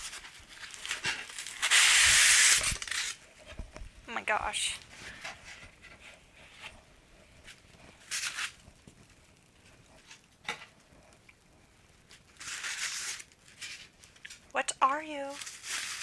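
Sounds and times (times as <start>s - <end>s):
packaging rustling and crinkling: 0.0s - 4.0s, 4.7s - 14.5s, 15.3s - 16.0s.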